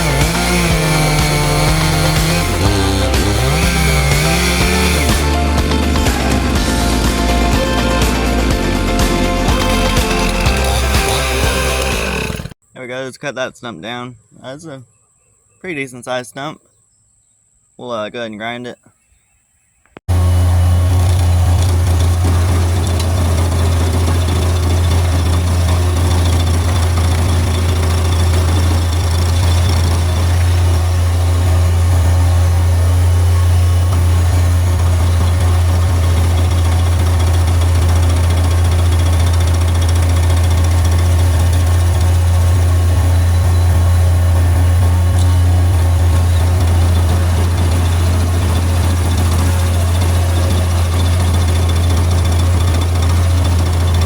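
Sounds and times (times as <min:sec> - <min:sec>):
stump grinder engine droning: 0:00.0 - 0:12.6, 0:20.1 - 0:54.0.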